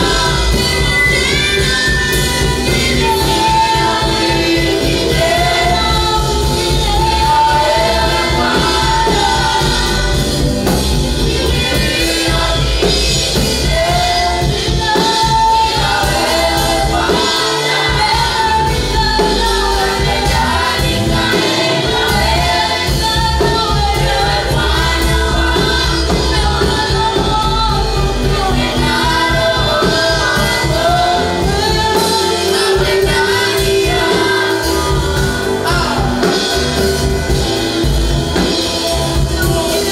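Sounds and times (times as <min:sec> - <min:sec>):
band with bass and drums: 0:00.0 - 0:39.9
choir singing: 0:00.0 - 0:39.9.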